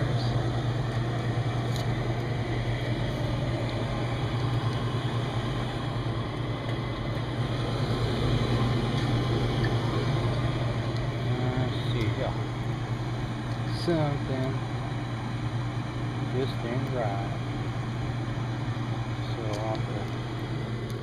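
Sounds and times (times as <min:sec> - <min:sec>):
hvac unit humming: 0:00.0 - 0:21.0.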